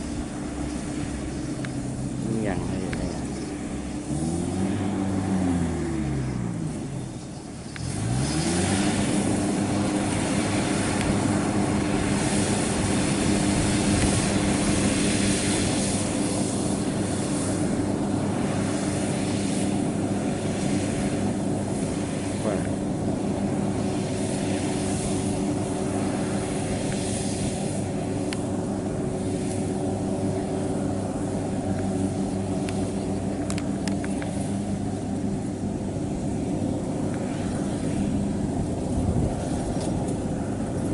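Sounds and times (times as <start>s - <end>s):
broad rushing noise: 0.0s - 40.9s
diesel engine revving: 0.0s - 40.9s.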